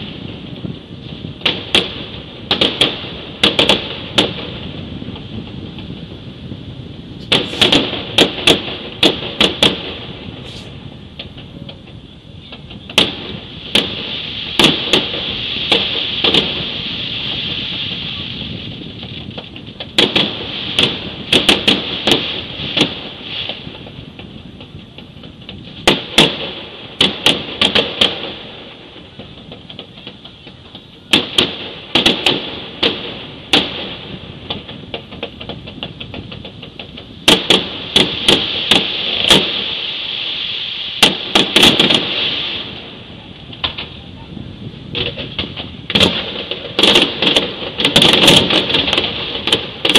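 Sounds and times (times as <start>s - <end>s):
fireworks exploding: 0.0s - 49.9s
steady high hiss: 0.0s - 49.9s.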